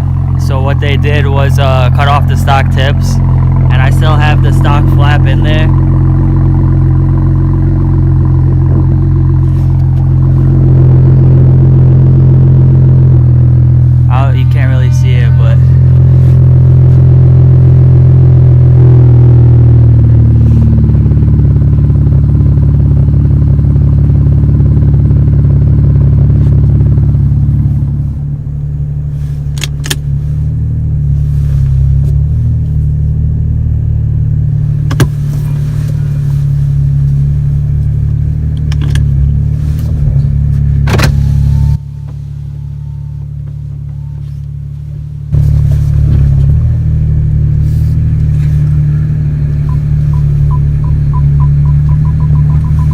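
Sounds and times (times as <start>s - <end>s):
loud low exhaust drone: 0.0s - 52.9s.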